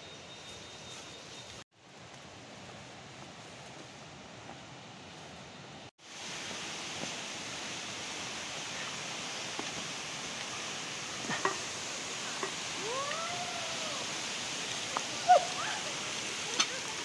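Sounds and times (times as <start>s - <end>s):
steady rushing outdoor noise: 1.7s - 17.0s.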